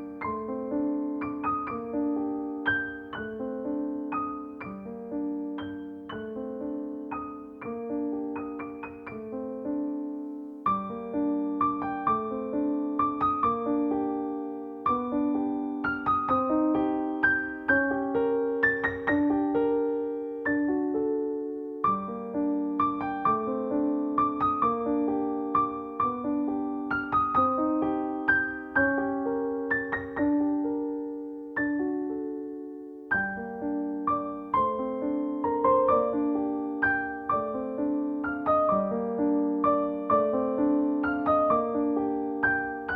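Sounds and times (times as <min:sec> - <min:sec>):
gentle piano arpeggios: 0:00.0 - 0:42.9.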